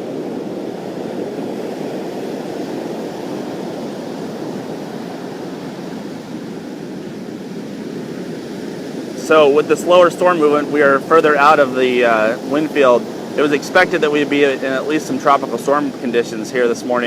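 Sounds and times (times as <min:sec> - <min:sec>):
heavy surf breaking on shore: 0:00.0 - 0:17.0.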